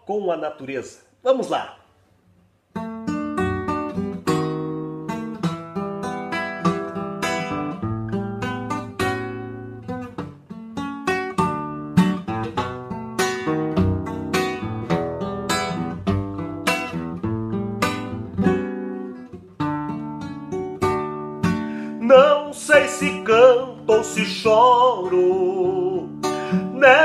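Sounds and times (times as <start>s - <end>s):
classical guitar playing: 2.7s - 27.0s.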